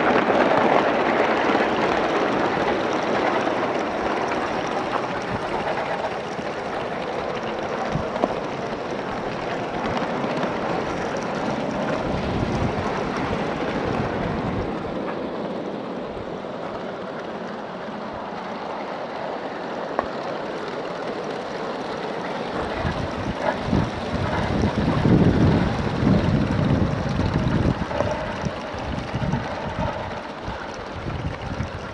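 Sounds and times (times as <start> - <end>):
model steam locomotive hissing: 0.0 - 31.9.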